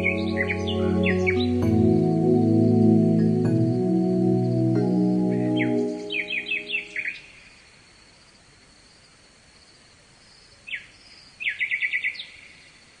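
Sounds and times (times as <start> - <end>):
songbird chirping: 0.0 - 8.4, 9.0 - 12.9.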